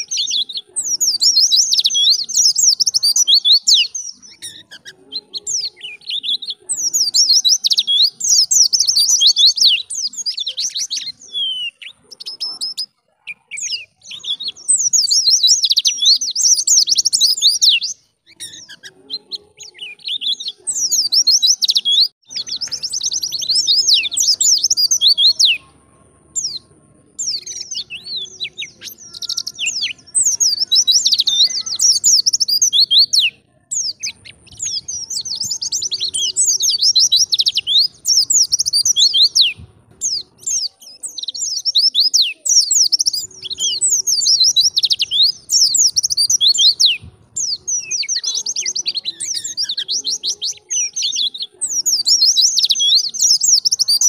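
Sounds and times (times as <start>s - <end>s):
bird twittering: 0.0s - 25.8s, 27.2s - 54.0s.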